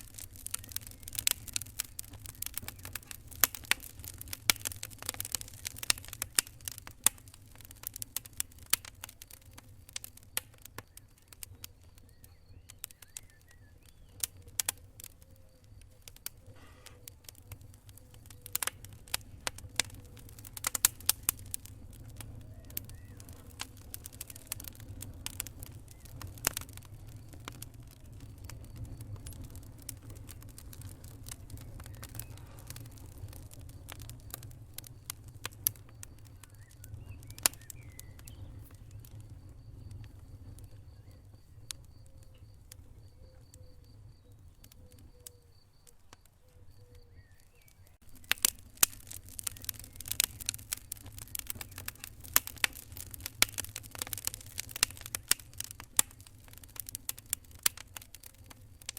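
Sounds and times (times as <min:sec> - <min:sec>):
fire popping and crackling: 0:00.0 - 0:58.9
low rumble of fire flames: 0:00.0 - 0:58.9.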